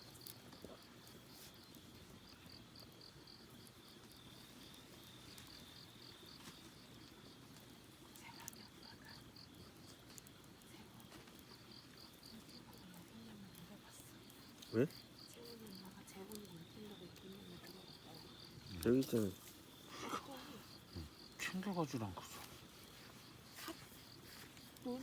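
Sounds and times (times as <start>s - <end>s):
faint ticks: 0.0s - 21.6s
crickets chirping: 0.0s - 25.0s.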